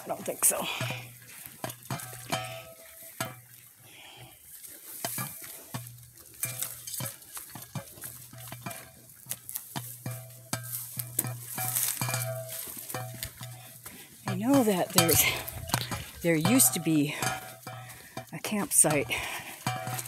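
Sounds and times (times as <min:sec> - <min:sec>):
footsteps crunching dry grass: 0:00.0 - 0:20.0
twigs crackling and scraping: 0:00.0 - 0:20.0.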